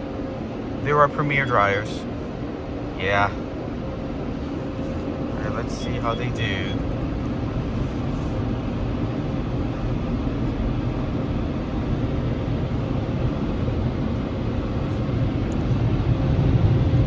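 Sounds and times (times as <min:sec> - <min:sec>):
car wash blower dryers: 0:00.0 - 0:17.0.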